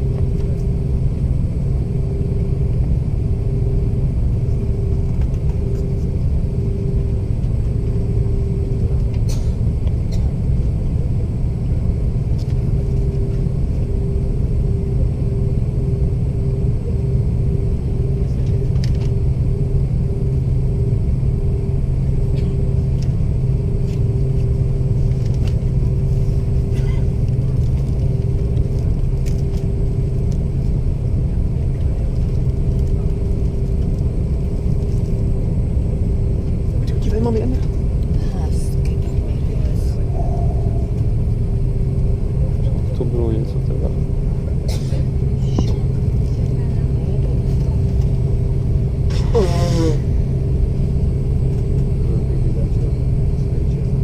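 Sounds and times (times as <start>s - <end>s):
aircraft cabin engine drone: 0.0s - 54.0s
throbbing hum: 0.0s - 54.0s.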